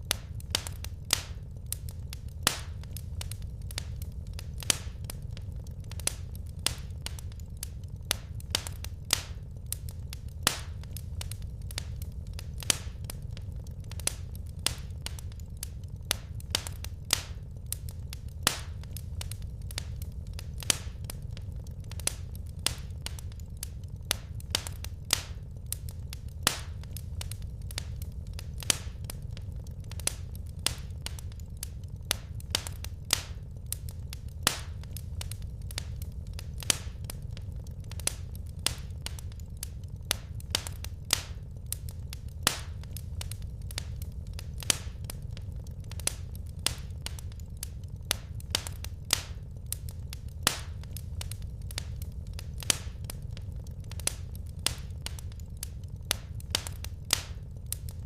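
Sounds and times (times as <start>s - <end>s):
sharp snaps and pops of fire: 0.0s - 58.0s
steady low rumble: 0.0s - 58.0s
wood fire crackling: 0.0s - 58.0s.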